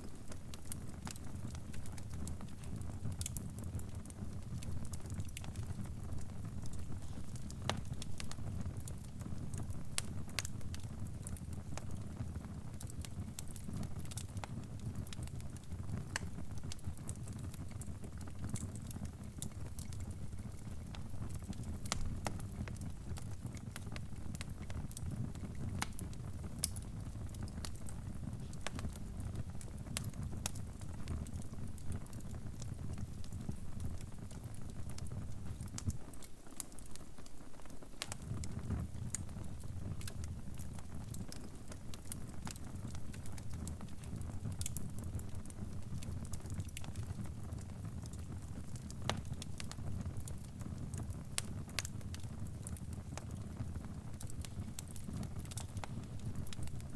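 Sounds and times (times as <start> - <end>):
log fire crackling: 0.0 - 56.9.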